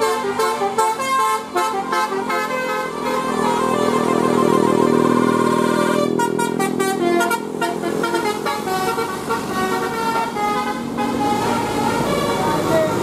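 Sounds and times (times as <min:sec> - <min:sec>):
air horn melody: 0:00.0 - 0:13.0
bus engine and road noise: 0:00.0 - 0:13.0.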